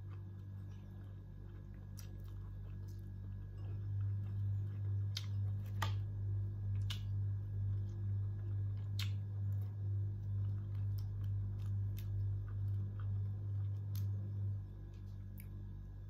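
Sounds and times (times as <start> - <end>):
chewing shrimp shells crunching: 0.0 - 15.8
pulsing low hum: 0.0 - 16.0.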